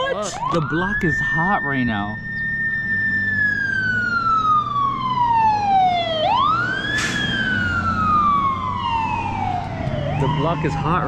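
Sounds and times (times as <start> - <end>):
ambulance siren wailing: 0.0 - 11.0.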